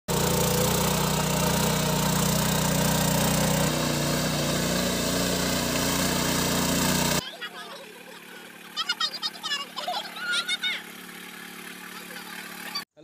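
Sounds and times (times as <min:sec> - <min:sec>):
tines churning mud: 0:00.1 - 0:12.8
tiller engine running: 0:00.1 - 0:12.9.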